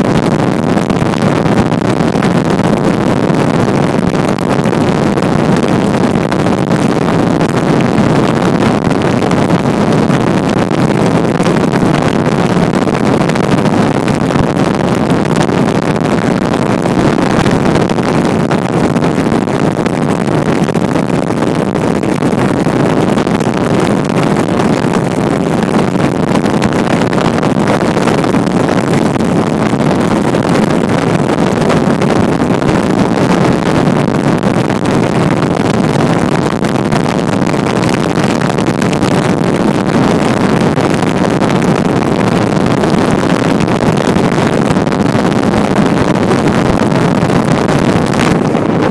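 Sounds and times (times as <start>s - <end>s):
motorboat engine and water rush: 0.0s - 48.9s.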